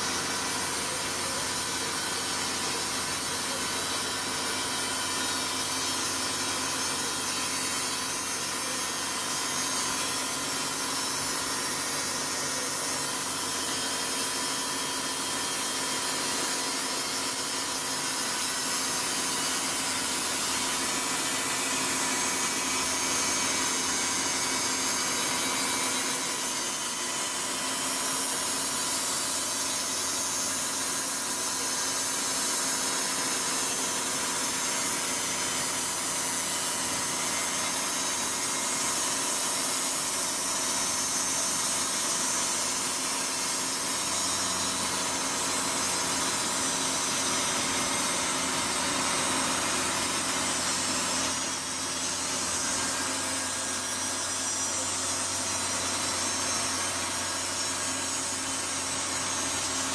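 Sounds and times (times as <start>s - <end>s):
blade sawing through wood: 0.0s - 59.9s
sawmill engine running under load: 0.0s - 59.9s.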